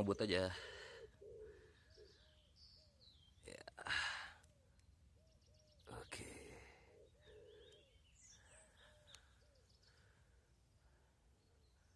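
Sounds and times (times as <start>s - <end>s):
faint bird calls: 0.0s - 11.9s.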